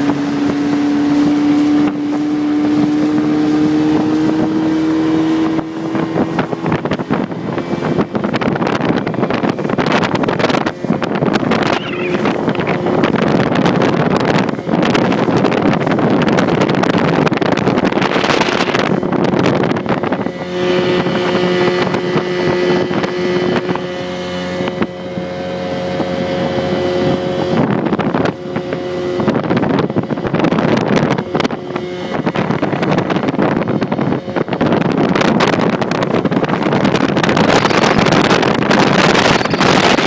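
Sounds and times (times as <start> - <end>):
outboard motor running: 0.0 - 40.0
rushing water: 0.0 - 40.0
wind noise on microphone: 0.0 - 40.0.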